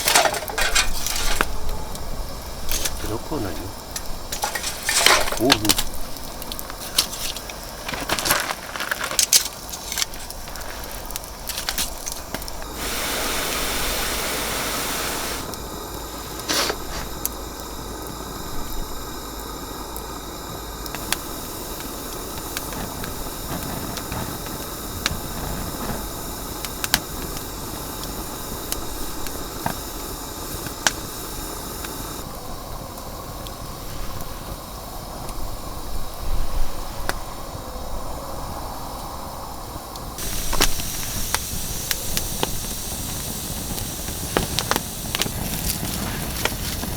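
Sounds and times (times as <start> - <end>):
loud hiss: 0.0 - 46.9
wood fire crackling and popping: 0.0 - 46.9.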